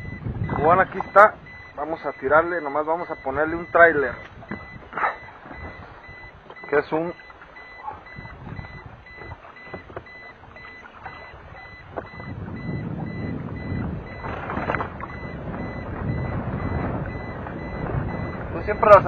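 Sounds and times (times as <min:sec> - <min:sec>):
rapid high electronic beeping: 0:00.0 - 0:14.3, 0:15.0 - 0:19.0
rough low rumbling noise: 0:00.0 - 0:19.0.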